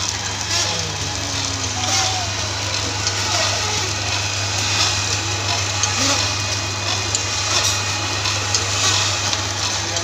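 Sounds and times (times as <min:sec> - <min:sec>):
machine low hum: 0:00.0 - 0:10.0.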